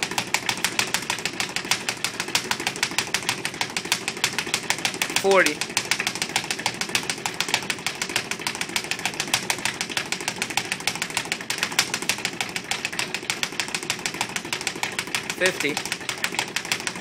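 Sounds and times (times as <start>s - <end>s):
speed bag being punched: 0.0s - 17.0s.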